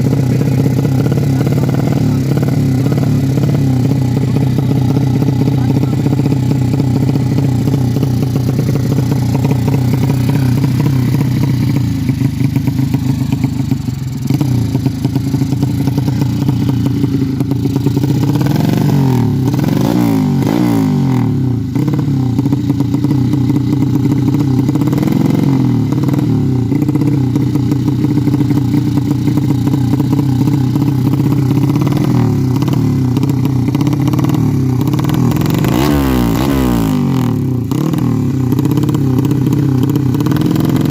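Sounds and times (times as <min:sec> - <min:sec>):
motorcycle engine fast idle: 0:00.0 - 0:40.9
motorcycle engine revving: 0:00.0 - 0:40.9.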